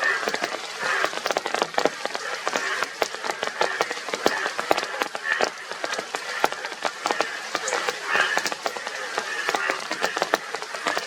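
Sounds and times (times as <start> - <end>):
bullfrogs croaking: 0.0 - 11.0.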